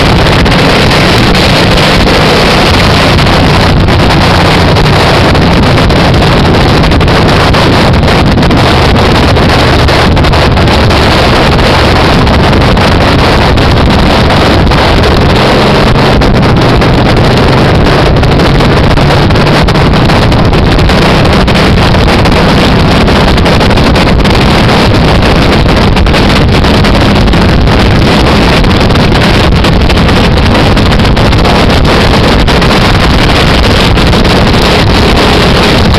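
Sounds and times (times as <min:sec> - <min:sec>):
motorcycle engine running: 0:00.0 - 0:35.9
wind buffeting microphone: 0:00.0 - 0:35.9.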